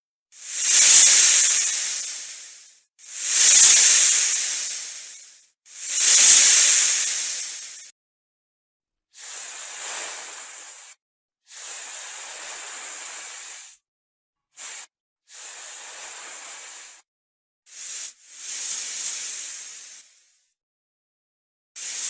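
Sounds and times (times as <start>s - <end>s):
snake hissing: 0.3s - 7.9s, 9.2s - 13.8s, 14.6s - 17.0s, 17.7s - 20.4s, 21.8s - 22.0s.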